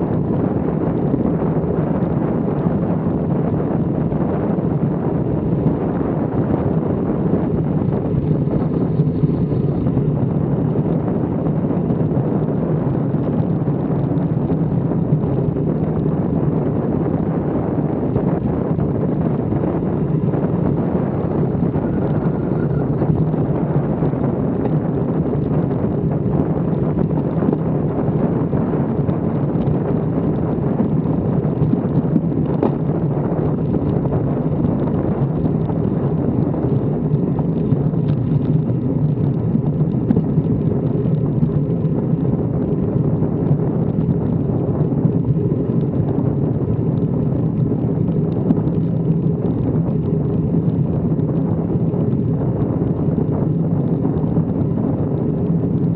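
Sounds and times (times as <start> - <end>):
wind rumbling on microphone: 0.0 - 55.9.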